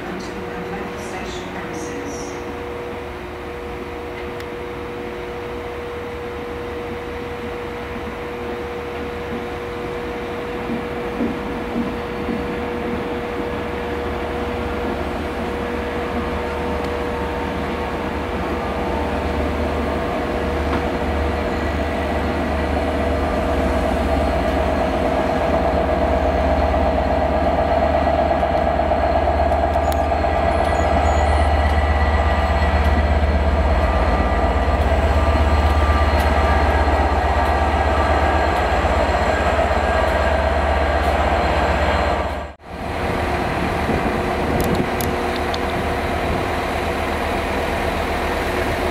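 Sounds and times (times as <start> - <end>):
diesel locomotive running: 0.0 - 48.9
passenger train rumbling past: 0.0 - 48.9.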